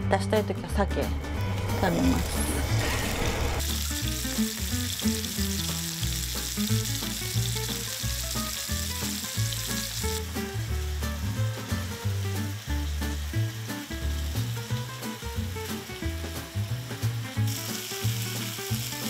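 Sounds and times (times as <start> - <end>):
background music: 0.0 - 19.0
fish sizzling in a frying pan: 3.5 - 19.0.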